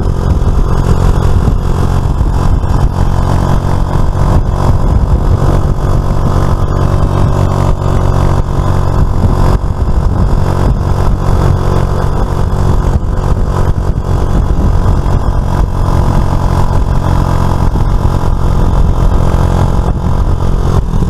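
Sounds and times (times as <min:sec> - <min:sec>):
road and wind noise: 0:00.0 - 0:21.0
scooter engine running: 0:00.0 - 0:21.0.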